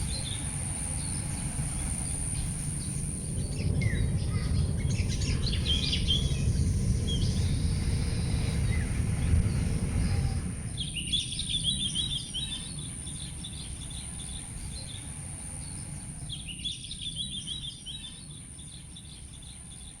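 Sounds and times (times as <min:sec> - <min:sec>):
low rumbling background noise: 0:00.0 - 0:20.0
small birds chirping: 0:00.0 - 0:20.0.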